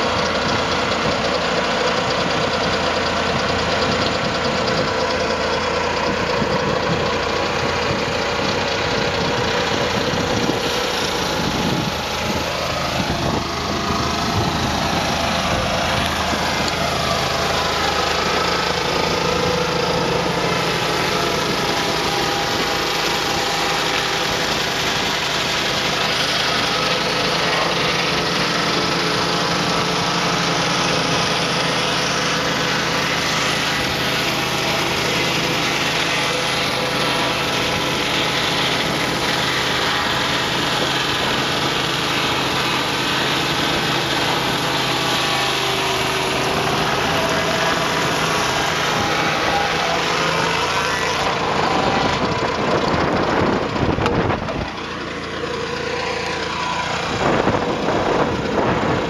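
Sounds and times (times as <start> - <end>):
petrol engine running under load: 0.0 - 59.0
saw blade cutting log: 0.0 - 59.0.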